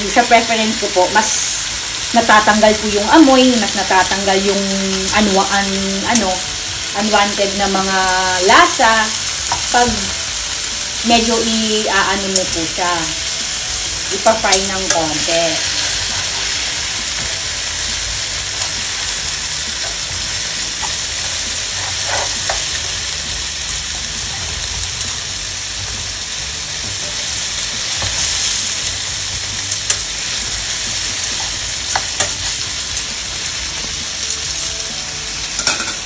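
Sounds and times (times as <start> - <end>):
meat sizzling in a pan: 0.0 - 36.0.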